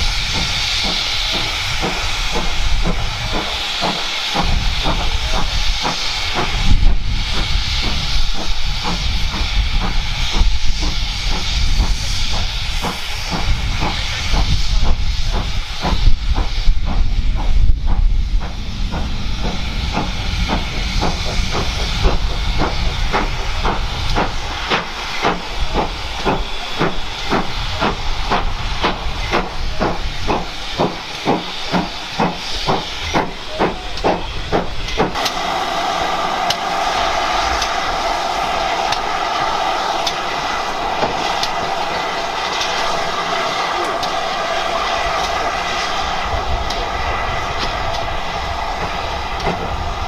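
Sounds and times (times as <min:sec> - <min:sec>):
steam hissing: 0:00.0 - 0:50.0
steam locomotive hissing loudly: 0:00.0 - 0:50.0
steam train chuffing: 0:00.0 - 0:50.0.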